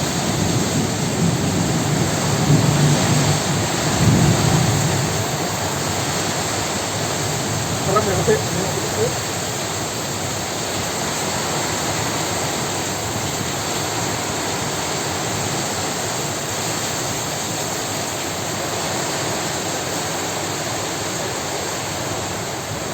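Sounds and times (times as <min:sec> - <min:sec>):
heavy rain: 0:00.0 - 0:22.9
strong storm wind: 0:00.0 - 0:22.9.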